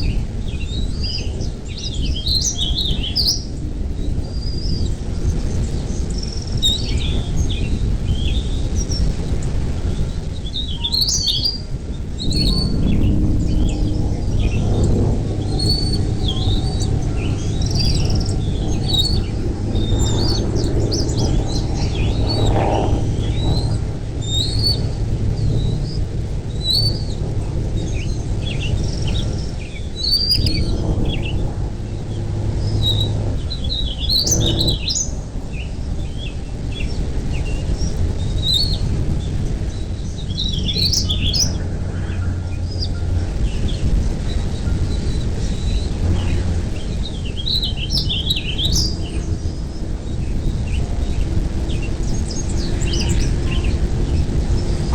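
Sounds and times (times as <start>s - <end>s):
birds chirping: 0.0s - 54.9s
steady low rumble: 0.0s - 54.9s.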